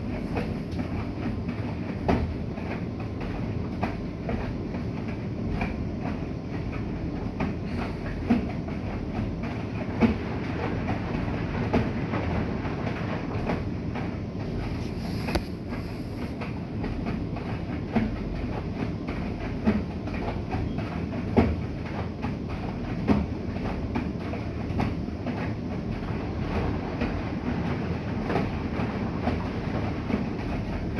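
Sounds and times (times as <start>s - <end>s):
laundry knocking in drum: 0.0s - 14.8s, 15.4s - 30.9s
washing machine drum rumble: 0.0s - 30.9s.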